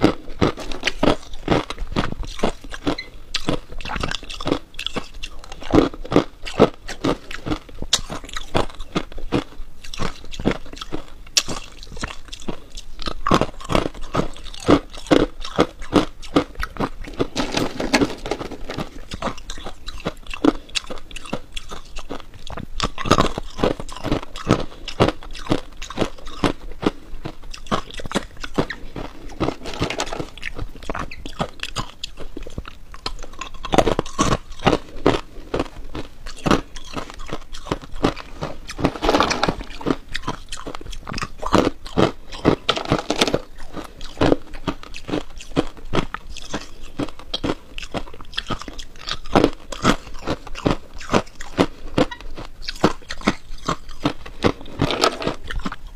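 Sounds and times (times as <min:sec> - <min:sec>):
ice crunching while chewed: 0:00.0 - 0:55.9.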